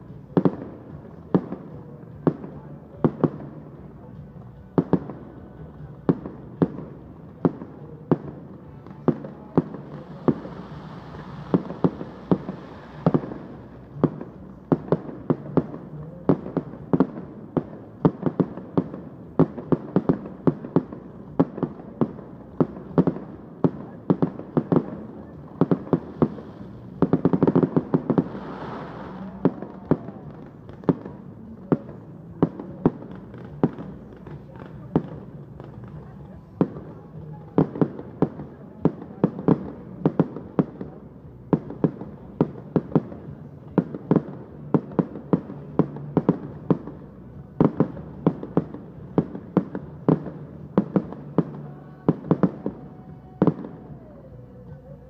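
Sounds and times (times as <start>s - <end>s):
fireworks bangs: 0.0s - 55.0s
fireworks hissing crackle: 0.0s - 55.0s.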